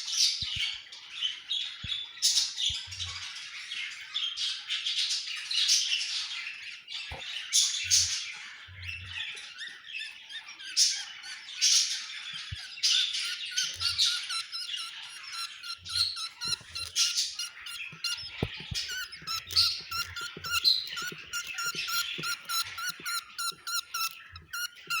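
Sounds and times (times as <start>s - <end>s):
budgerigars chattering and squawking: 0.1s - 25.0s.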